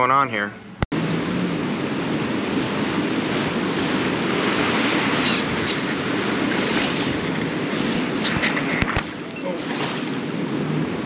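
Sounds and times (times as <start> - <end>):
wind on microphone: 0.9 - 11.0
water sloshing around pilings: 1.0 - 11.0.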